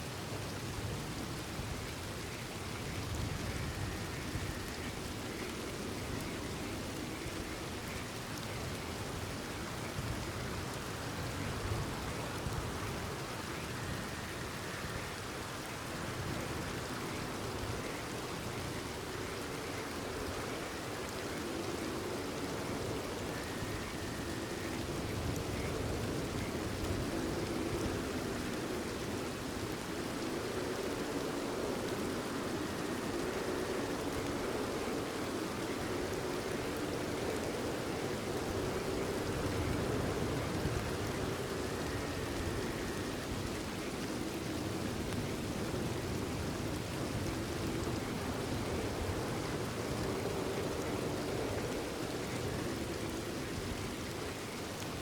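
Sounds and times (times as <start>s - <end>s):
steady rain falling: 0.0s - 55.0s
faint frog calls: 1.9s - 46.9s.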